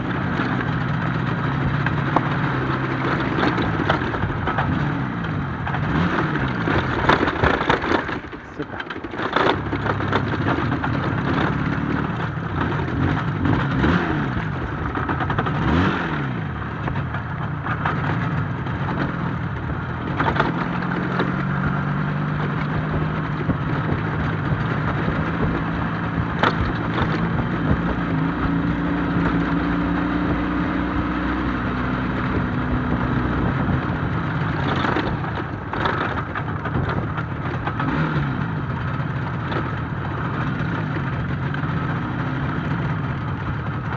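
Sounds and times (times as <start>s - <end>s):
two-stroke motorcycle engine running: 0.0s - 43.9s.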